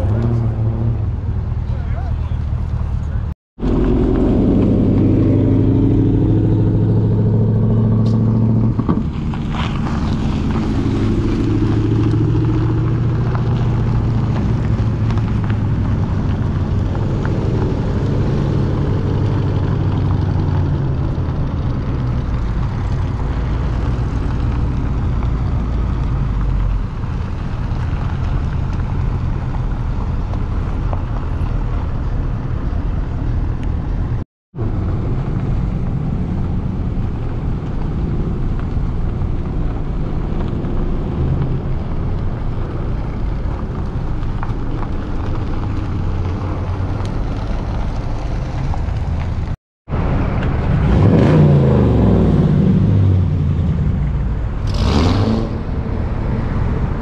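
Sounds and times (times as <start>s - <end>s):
car engines and exhausts: 0.0s - 57.0s.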